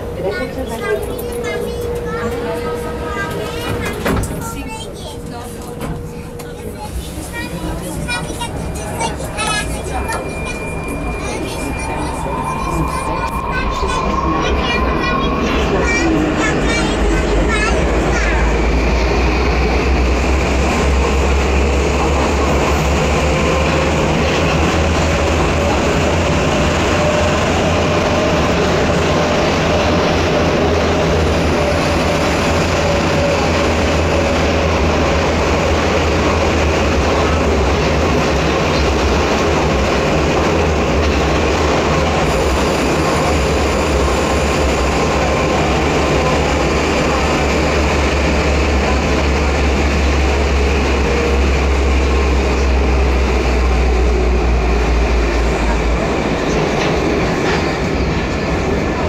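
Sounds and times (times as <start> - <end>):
metro train rumbling in tunnel: 0.0 - 59.0.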